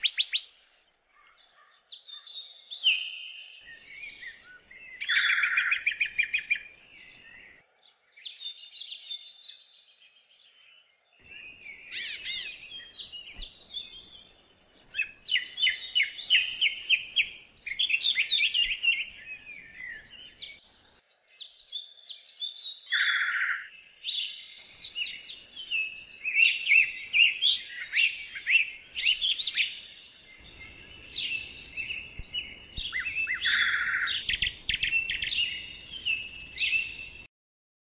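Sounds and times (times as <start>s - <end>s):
birds chirping and singing: 0.0s - 37.3s.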